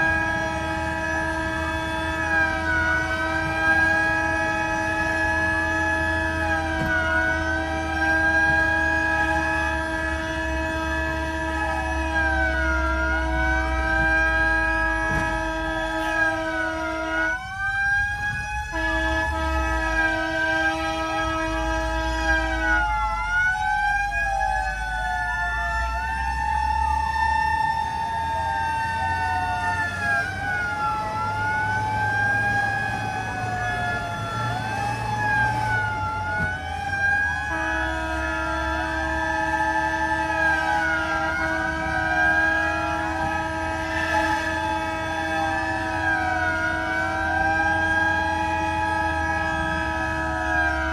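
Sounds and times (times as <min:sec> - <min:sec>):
fire engine sirens wailing: 0:00.0 - 0:50.9
steady blaring horn tone: 0:00.0 - 0:50.9.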